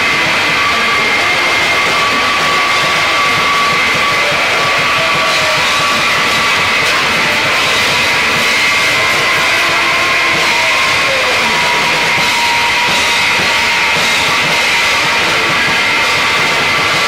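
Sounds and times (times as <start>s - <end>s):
harsh distorted noise music: 0.0s - 17.0s
steady high tones: 0.0s - 17.0s.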